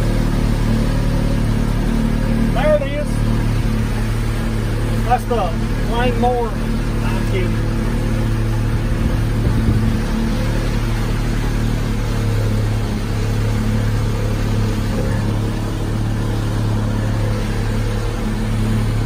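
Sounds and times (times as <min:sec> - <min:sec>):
motorboat engine running: 0:00.0 - 0:19.0
wind and water rushing: 0:00.0 - 0:19.0.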